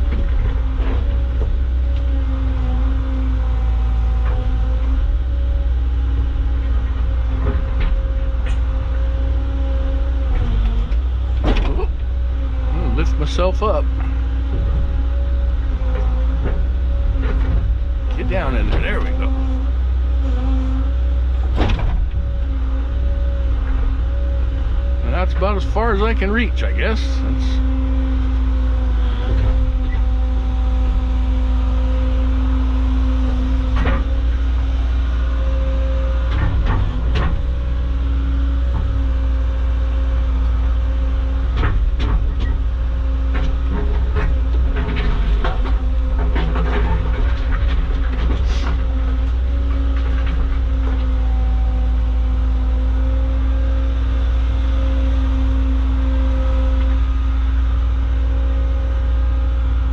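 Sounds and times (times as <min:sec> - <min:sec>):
excavator diesel engine: 0:00.0 - 0:59.9
hydraulics working: 0:00.0 - 0:59.9.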